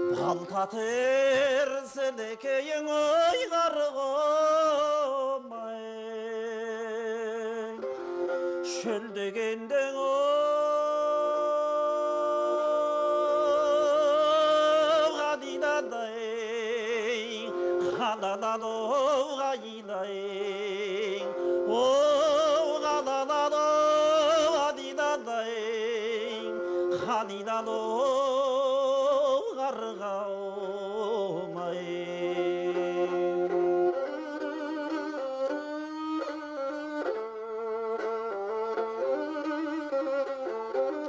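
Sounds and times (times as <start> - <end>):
bowed fiddle with wide vibrato: 0.0 - 41.0.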